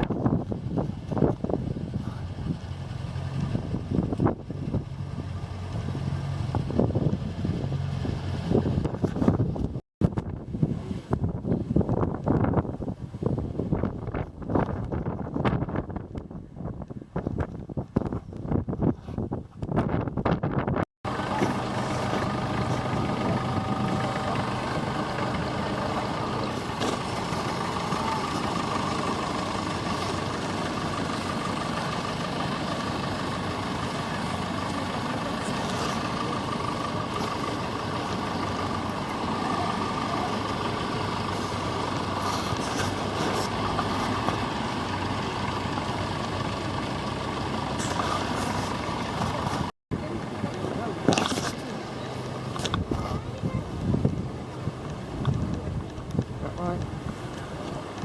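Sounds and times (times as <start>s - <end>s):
tractor engine running: 0.0s - 10.3s, 21.0s - 58.0s.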